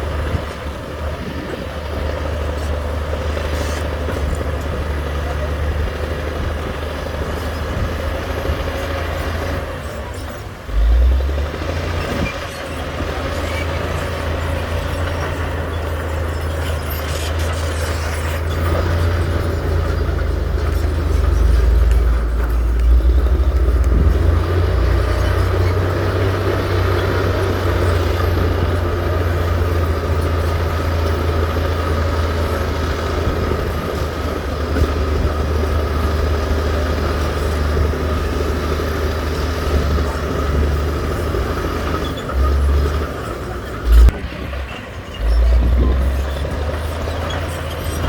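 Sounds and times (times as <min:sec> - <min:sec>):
heavy diesel machinery drone: 0:00.0 - 0:48.0.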